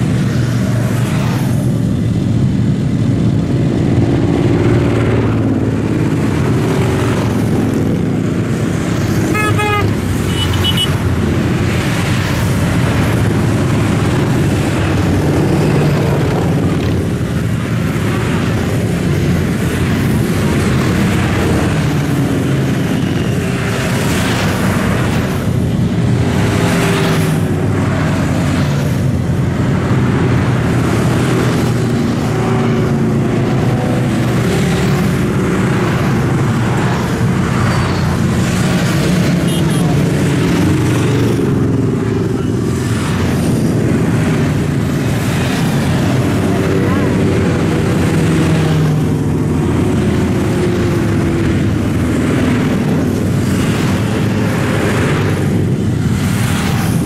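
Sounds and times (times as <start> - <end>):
motorcycles riding past: 0.0 - 57.0.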